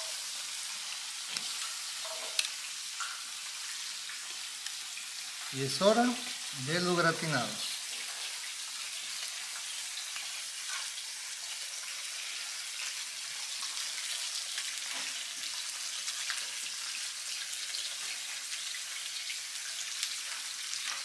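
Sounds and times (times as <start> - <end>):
shrimp sizzling on a grill: 0.0 - 21.0.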